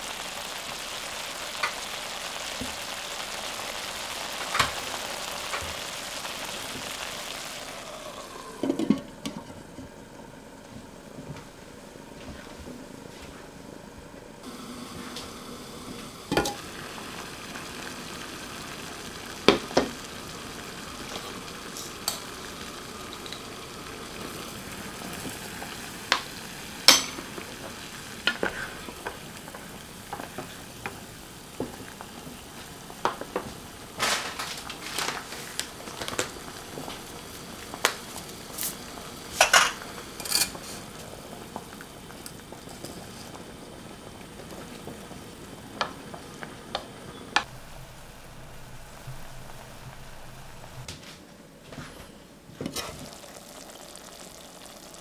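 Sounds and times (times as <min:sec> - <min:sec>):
gas stove hissing: 0:00.0 - 0:55.0.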